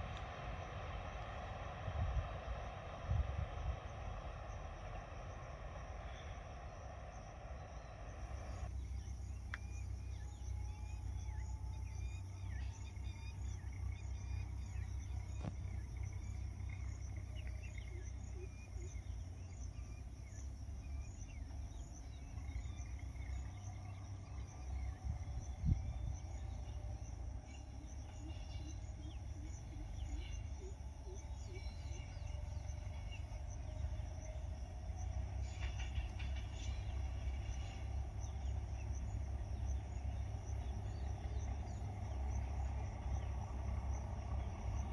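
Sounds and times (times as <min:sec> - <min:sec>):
crickets chirping: 0:00.0 - 0:44.9
high continuous whine: 0:00.0 - 0:44.9
low rumble: 0:00.0 - 0:44.9.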